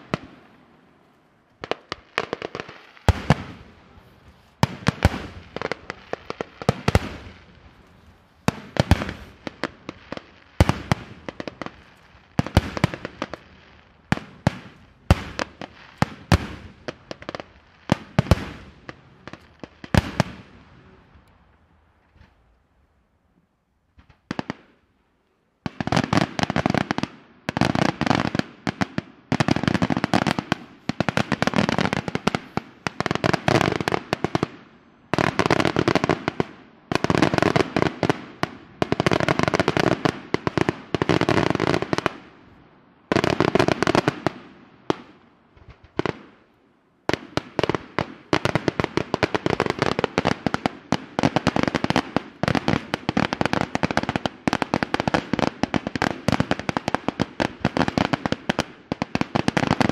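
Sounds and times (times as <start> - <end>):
fireworks bangs and crackle: 0.0 - 0.9, 1.5 - 22.5, 23.9 - 24.8, 25.6 - 59.9.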